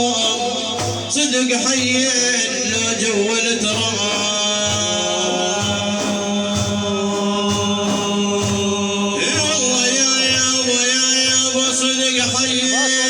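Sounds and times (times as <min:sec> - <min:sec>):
low regular beat: 0:00.0 - 0:13.0
man chanting a religious lament: 0:00.0 - 0:13.0.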